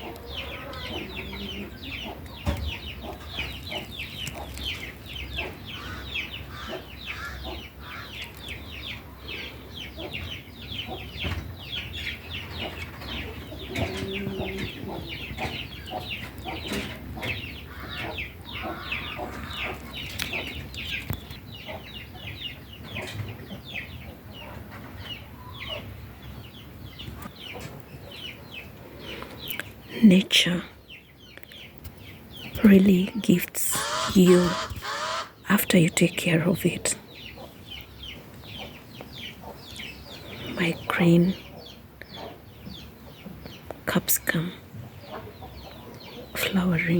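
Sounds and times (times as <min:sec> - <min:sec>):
chicken clucking: 0:00.0 - 0:30.0, 0:33.0 - 0:43.8, 0:44.7 - 0:46.6
chicks peeping: 0:00.0 - 0:46.9.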